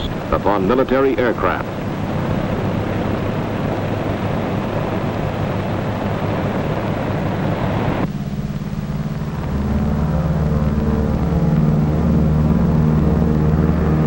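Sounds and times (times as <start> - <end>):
low steady engine drone: 0.0 - 14.0
propeller engines running hard: 0.0 - 14.0.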